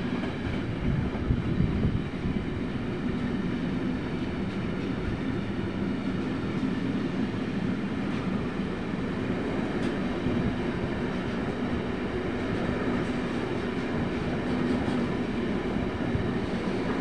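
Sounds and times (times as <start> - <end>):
freight train wheels on rail: 0.0 - 17.0.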